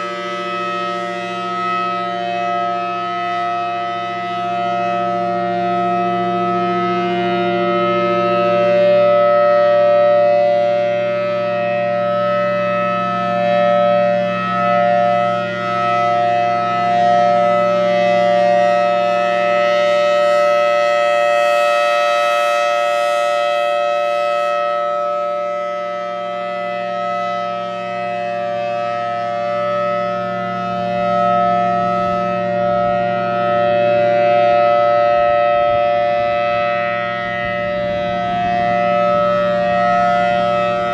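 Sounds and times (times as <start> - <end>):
warning siren two-note chord: 0.0 - 40.9.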